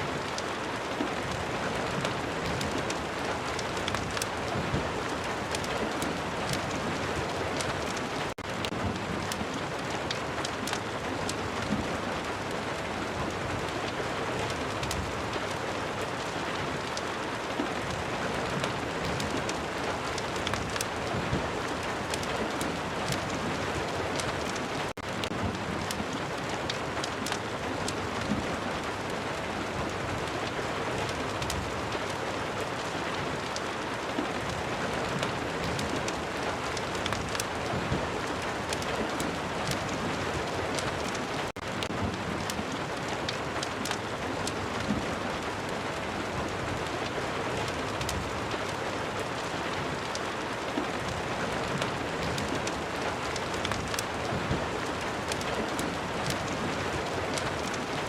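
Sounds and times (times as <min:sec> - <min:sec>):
steady rain hissing: 0:00.0 - 0:58.0
sharp ticks and crackles: 0:00.3 - 0:13.2, 0:13.9 - 0:28.5, 0:29.8 - 0:45.9, 0:46.8 - 0:58.0.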